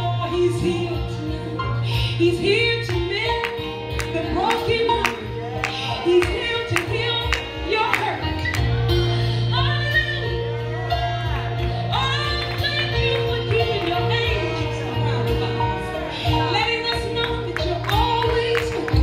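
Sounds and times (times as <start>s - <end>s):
gospel song playing: 0.0s - 19.0s.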